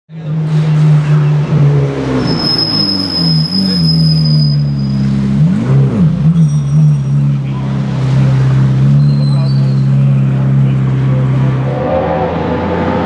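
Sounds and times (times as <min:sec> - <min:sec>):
race car engine at low revs: 0:00.1 - 0:13.0.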